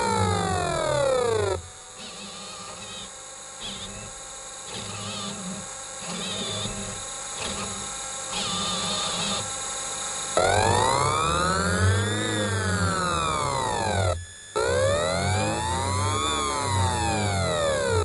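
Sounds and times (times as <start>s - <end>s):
stepper motor whines: 0.0s - 18.0s.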